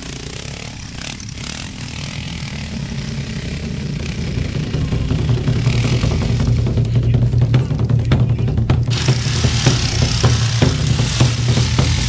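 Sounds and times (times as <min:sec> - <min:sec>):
dirt bike engine climbing: 0:00.0 - 0:12.0.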